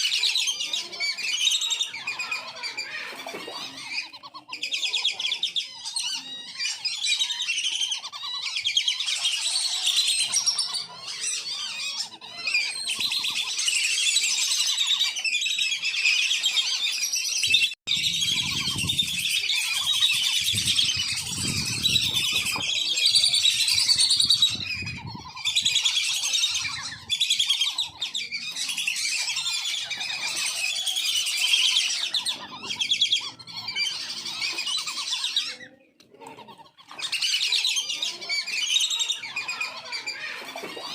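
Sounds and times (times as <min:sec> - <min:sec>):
ducks whistling calls: 0:00.0 - 0:40.9.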